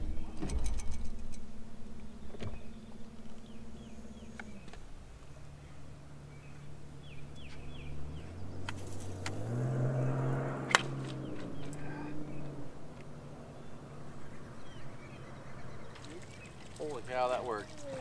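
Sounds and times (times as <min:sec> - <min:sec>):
boat motor humming: 0:00.0 - 0:18.0.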